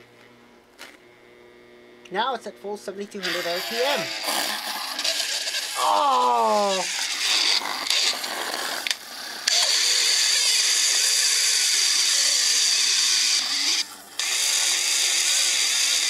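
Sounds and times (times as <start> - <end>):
hard drive rattling whir: 0.0 - 16.0.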